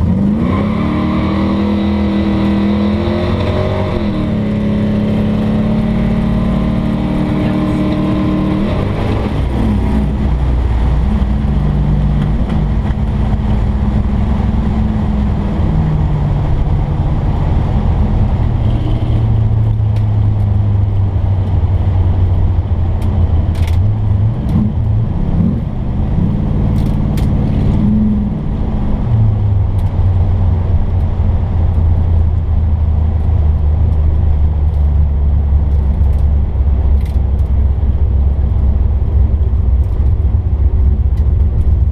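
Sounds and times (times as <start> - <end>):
car engine running and revving: 0.0 - 41.9.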